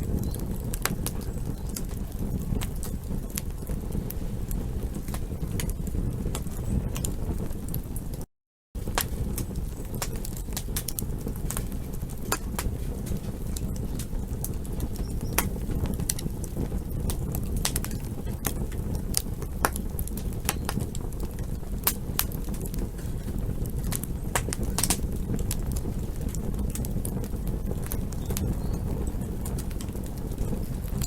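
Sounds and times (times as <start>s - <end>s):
campfire crackling and popping: 0.0s - 31.0s
low rumble of flame: 0.0s - 31.0s.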